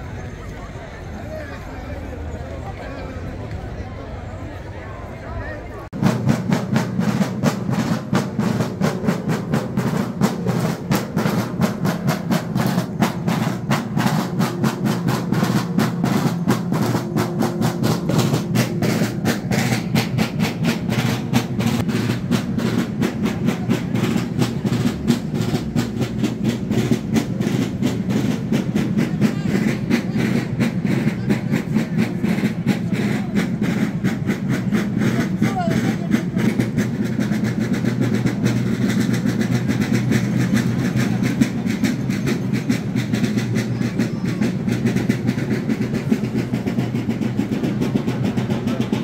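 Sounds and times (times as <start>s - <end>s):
marching drummers beating drums: 5.9s - 49.0s.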